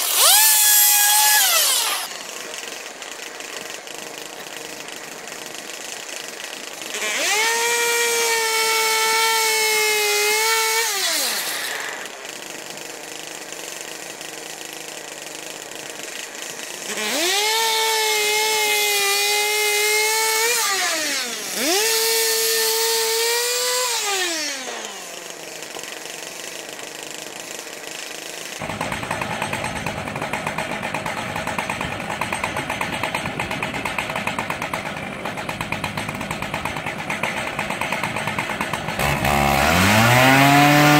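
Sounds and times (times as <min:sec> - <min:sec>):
chainsaw sawmill revving and cutting log: 0:00.0 - 0:40.9
rough pulsing engine noise: 0:00.0 - 0:40.9.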